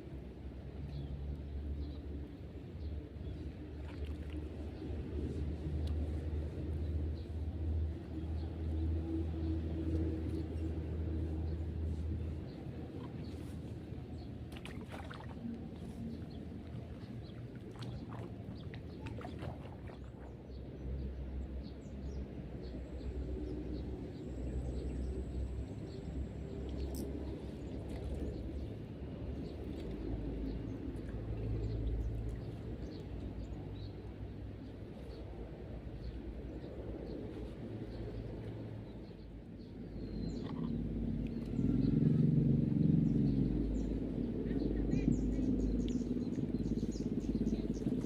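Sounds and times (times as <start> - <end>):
low motor hum: 0.0 - 48.0
steady low rumble: 0.0 - 48.0.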